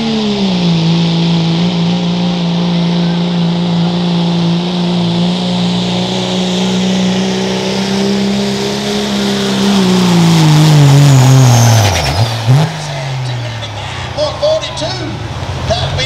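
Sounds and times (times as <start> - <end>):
diesel truck engine at high revs: 0.0 - 16.0.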